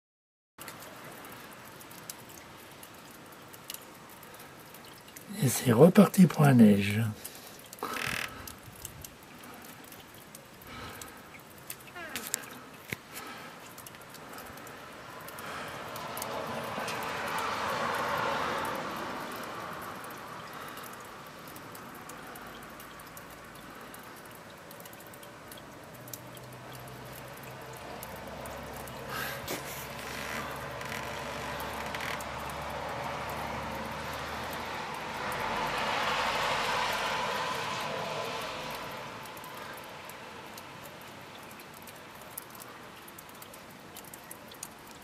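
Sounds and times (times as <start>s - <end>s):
distant traffic: 0.6s - 45.0s.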